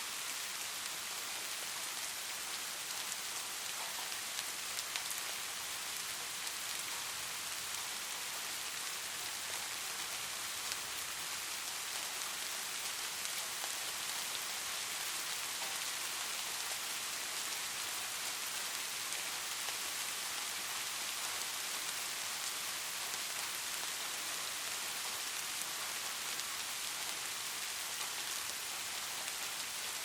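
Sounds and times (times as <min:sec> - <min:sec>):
light rain: 0:00.0 - 0:30.0.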